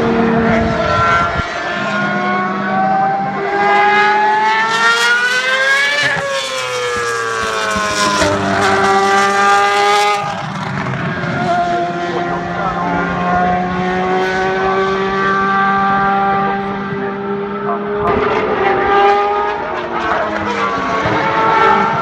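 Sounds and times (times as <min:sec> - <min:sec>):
race car engine passing at speed: 0:00.0 - 0:22.0.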